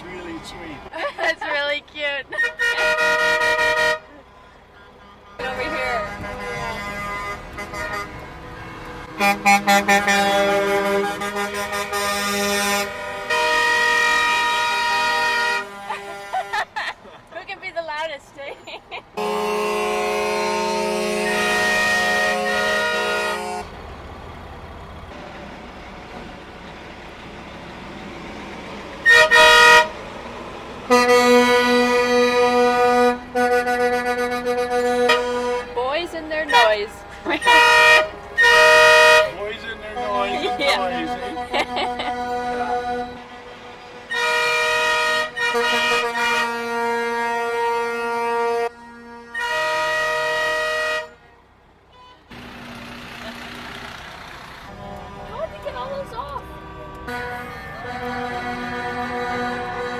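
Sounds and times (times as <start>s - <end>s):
engine and traffic rumble: 0.0s - 59.9s
truck air horns honking: 1.6s - 17.0s, 19.2s - 25.3s, 26.0s - 59.9s.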